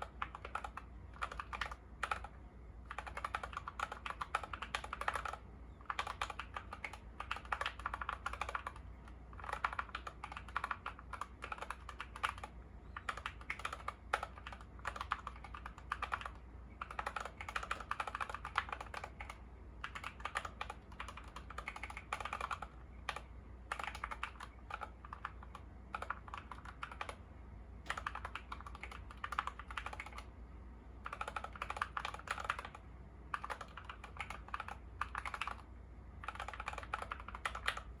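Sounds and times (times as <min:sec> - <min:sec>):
mechanical keyboard typing: 0:00.0 - 0:27.2, 0:27.8 - 0:30.3, 0:31.0 - 0:38.0.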